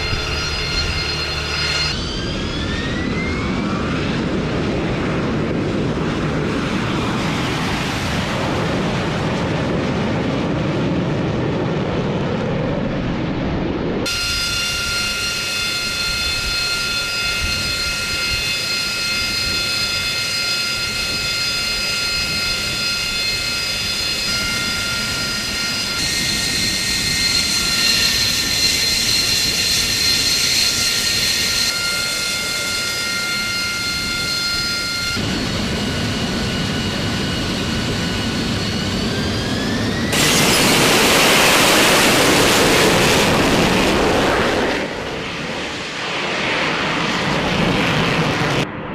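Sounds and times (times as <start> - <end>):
jet engine high-pitched whine: 0.0 - 48.9
jet thrust rushing noise: 0.0 - 48.9.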